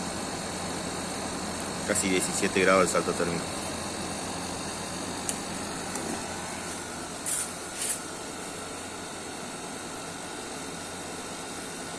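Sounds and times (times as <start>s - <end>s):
air conditioner running: 0.0s - 11.9s.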